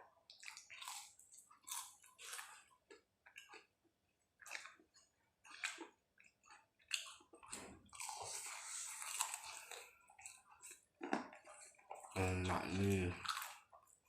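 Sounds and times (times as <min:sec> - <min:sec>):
wet chewing and lip-smacking: 0:00.1 - 0:14.0.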